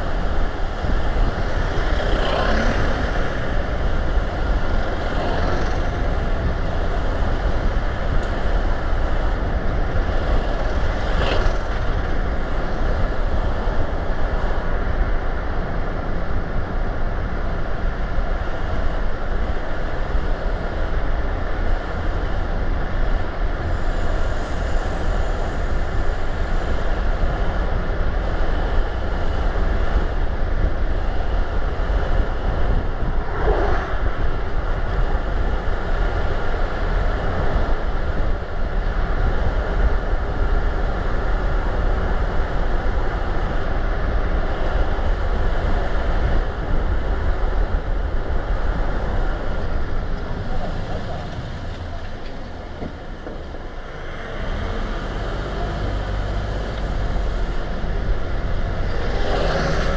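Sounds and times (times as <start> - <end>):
car tyre and wind noise: 0.0 - 59.9.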